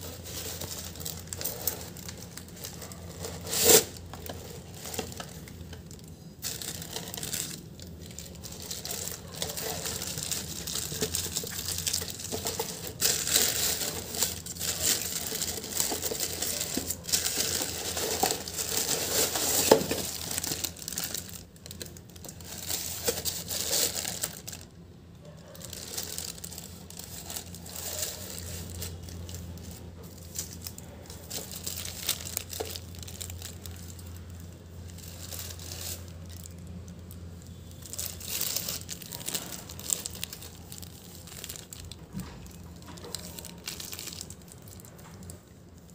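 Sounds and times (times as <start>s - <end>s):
plastic bag crinkling: 0.0s - 45.9s.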